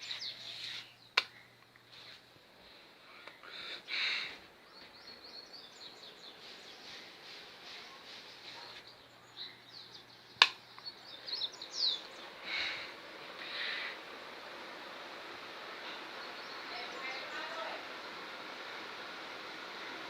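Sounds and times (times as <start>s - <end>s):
background hiss: 0.0s - 20.0s
small birds chirping: 0.0s - 20.0s.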